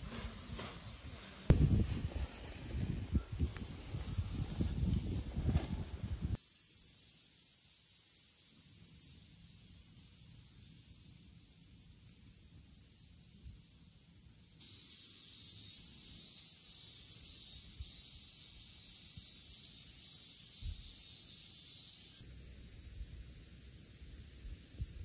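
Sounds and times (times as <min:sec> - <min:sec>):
insects shrilling: 0:00.0 - 0:25.0
pulsing insect buzz: 0:00.0 - 0:25.0.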